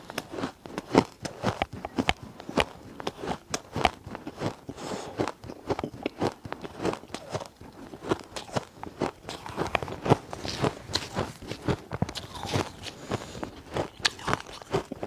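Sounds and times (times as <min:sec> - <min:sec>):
ice crunching being chewed: 0:00.0 - 0:15.0.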